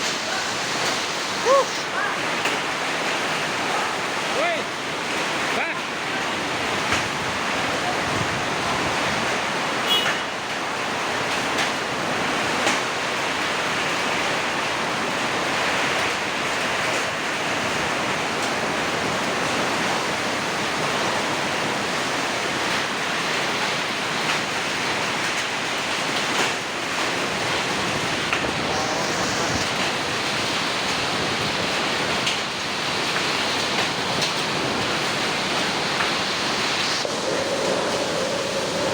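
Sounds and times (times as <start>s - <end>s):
heavy rain and wind: 0.0s - 38.9s.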